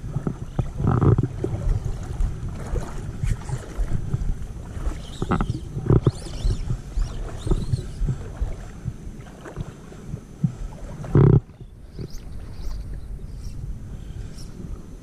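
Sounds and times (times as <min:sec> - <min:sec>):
water sloshing around legs: 0:00.0 - 0:13.2
wind buffeting microphone: 0:00.0 - 0:15.0.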